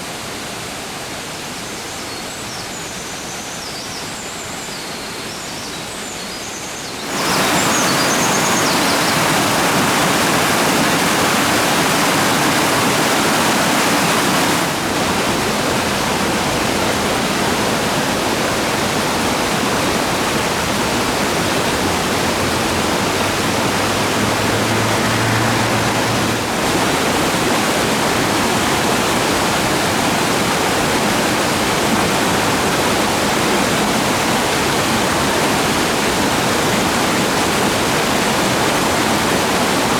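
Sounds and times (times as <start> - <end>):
stream rushing over rocks: 7.0 - 39.9.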